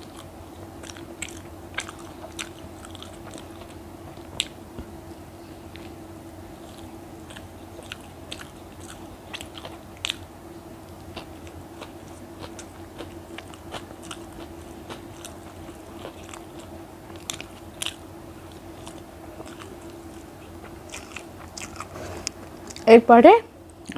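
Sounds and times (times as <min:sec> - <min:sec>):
person chewing and biting: 0:00.0 - 0:04.6, 0:05.7 - 0:10.3, 0:10.9 - 0:22.8.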